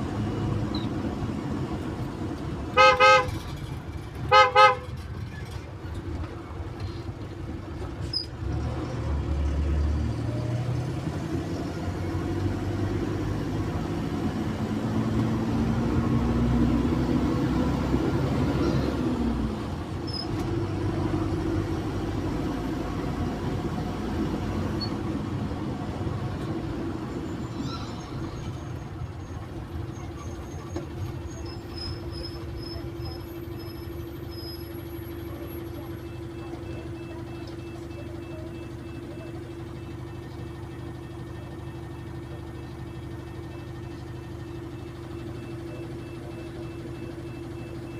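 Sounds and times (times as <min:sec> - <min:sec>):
bus engine accelerating: 0:00.0 - 0:47.9.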